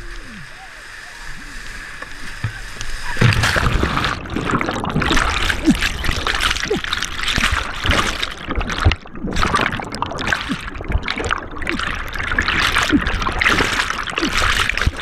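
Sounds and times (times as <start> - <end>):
underwater rushing whitewater: 0.0 - 15.0.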